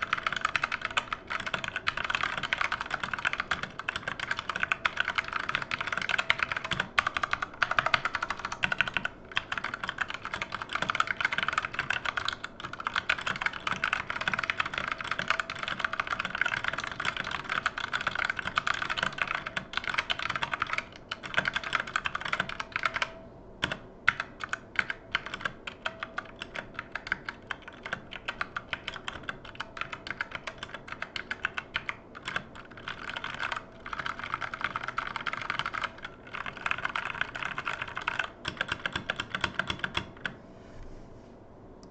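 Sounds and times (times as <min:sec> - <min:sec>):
typing on mechanical keyboard: 0:00.0 - 0:40.4.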